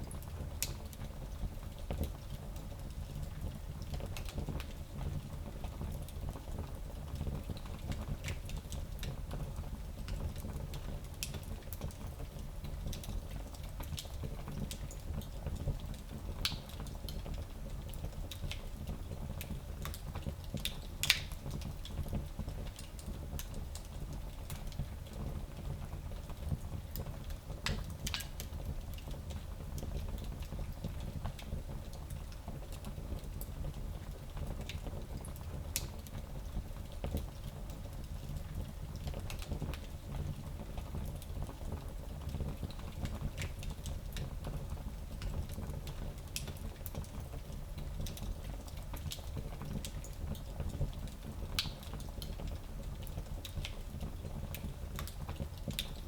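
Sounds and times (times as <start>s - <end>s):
wood fire crackling and popping: 0.0s - 4.8s, 5.4s - 56.0s.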